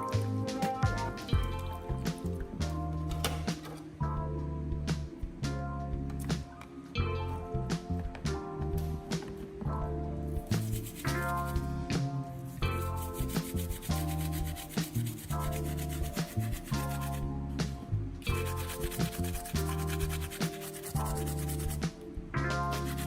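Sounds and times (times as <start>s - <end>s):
background music with bass and chords: 0.0s - 23.0s.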